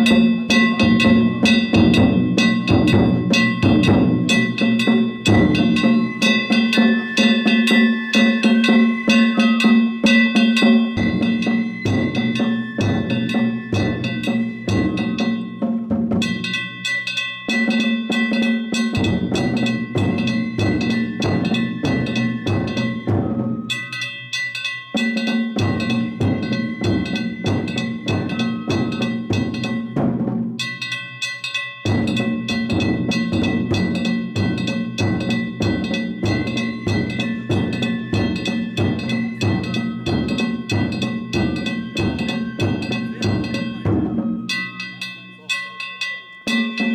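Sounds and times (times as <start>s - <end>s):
big taiko drum: 0.0s - 24.0s, 24.9s - 30.9s, 31.8s - 44.8s, 46.5s - 46.9s
rapid strikes on small drums: 0.0s - 46.9s
ringing bronze gongs: 0.0s - 46.9s.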